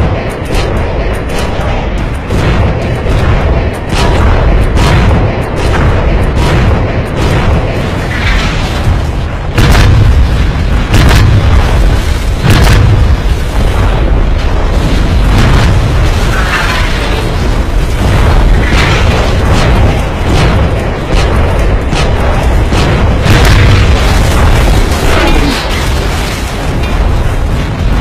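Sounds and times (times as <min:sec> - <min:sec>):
explosions booming: 0:00.0 - 0:28.0
heavy low rumble: 0:00.0 - 0:28.0.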